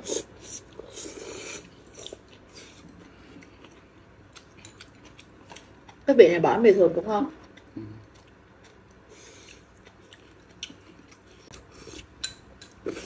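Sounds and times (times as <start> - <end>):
chewing: 0.1 - 6.0, 7.4 - 13.0.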